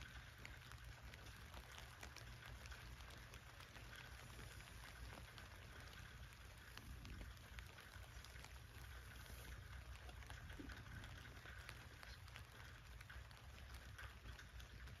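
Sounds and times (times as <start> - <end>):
rain falling on a tent: 0.0 - 15.0.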